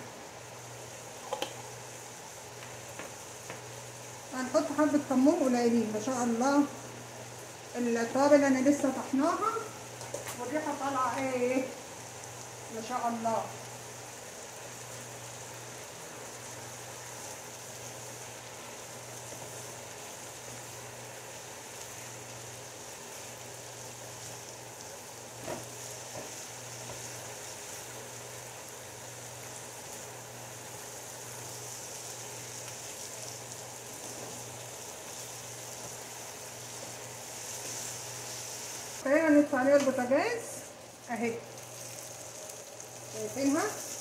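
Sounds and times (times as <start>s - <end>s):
food sizzling in a pan: 0.0s - 44.0s.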